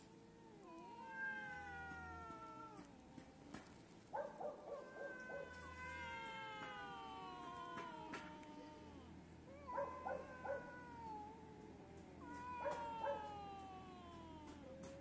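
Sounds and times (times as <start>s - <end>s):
cats yowling: 0.0s - 15.0s.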